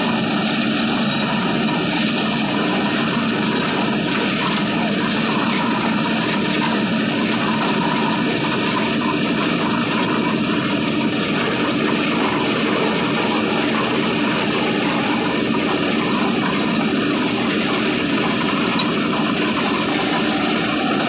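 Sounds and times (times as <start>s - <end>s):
concrete mixer running: 0.0s - 21.0s.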